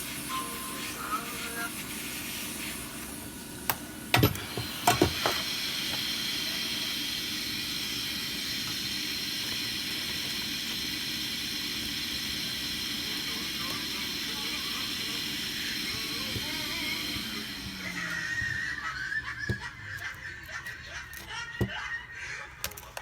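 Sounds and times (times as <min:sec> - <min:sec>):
steady airy hiss: 0:00.0 - 0:20.6.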